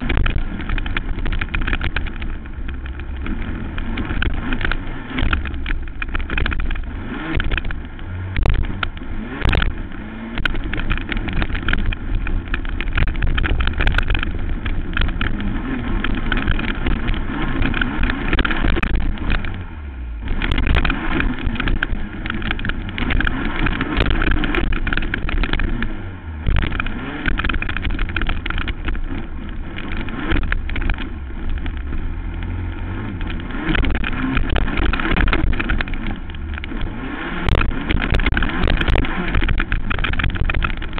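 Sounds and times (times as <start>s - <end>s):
quad engine revving hard: 0.0s - 40.9s.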